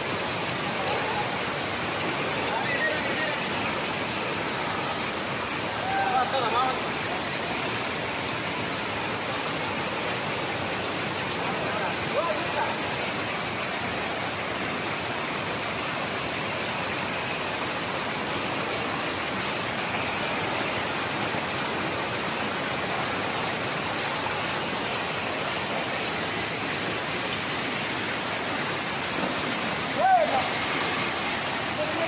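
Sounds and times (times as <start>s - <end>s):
water rushing over a weir: 0.0s - 32.0s.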